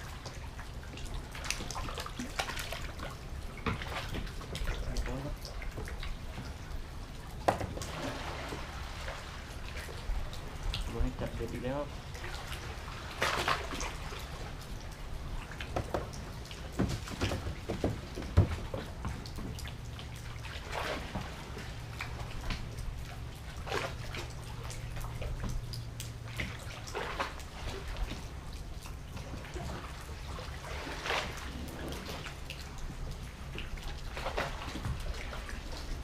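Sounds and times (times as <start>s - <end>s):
low steady hum: 0.0s - 36.0s
water splashing against boat hull: 0.0s - 36.0s.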